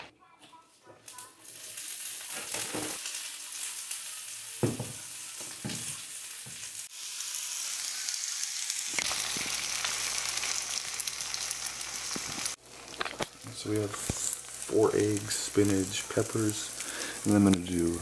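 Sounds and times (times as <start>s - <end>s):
food sizzling on a griddle: 1.0s - 18.0s.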